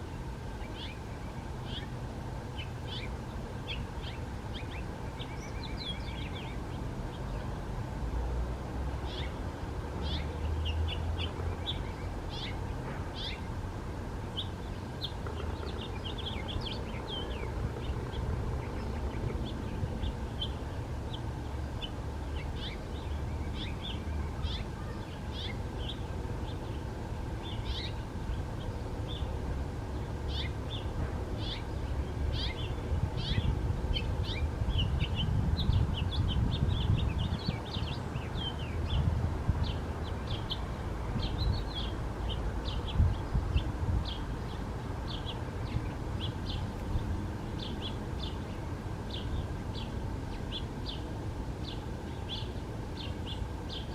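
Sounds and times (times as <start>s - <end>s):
small birds chirping: 0.0s - 7.7s, 9.0s - 13.6s, 14.2s - 53.9s.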